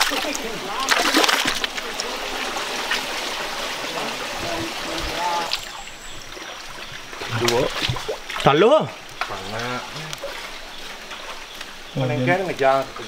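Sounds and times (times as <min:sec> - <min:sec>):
sharp water splashes: 0:00.0 - 0:12.0
stream water rushing and splashing: 0:00.0 - 0:13.0.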